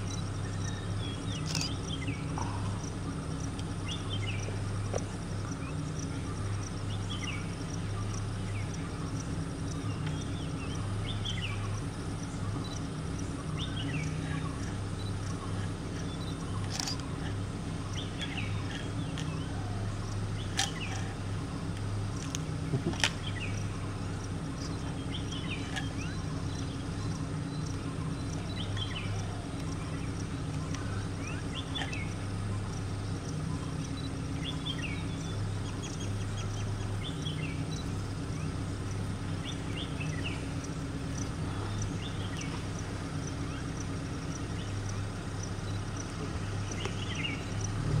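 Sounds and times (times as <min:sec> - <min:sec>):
birds chirping: 0:00.0 - 0:48.0
low mechanical hum: 0:00.0 - 0:48.0.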